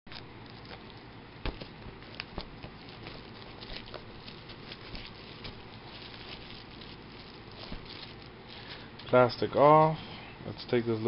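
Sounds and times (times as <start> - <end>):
plastic wrap crinkling: 0.1 - 9.5.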